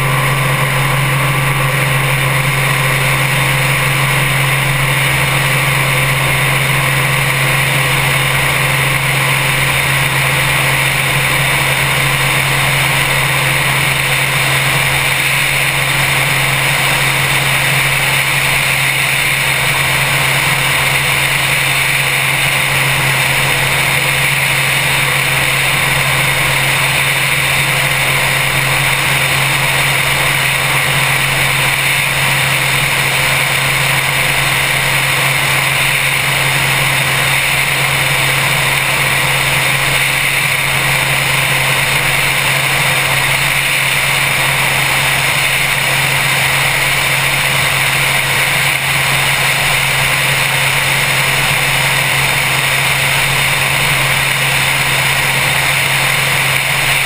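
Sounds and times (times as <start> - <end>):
helicopter engine and rotor noise: 0.0 - 57.0.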